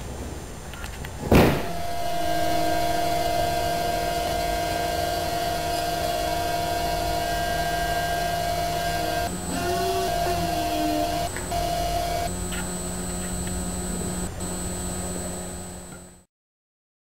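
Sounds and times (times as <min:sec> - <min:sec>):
forklift whining: 0:01.5 - 0:15.4.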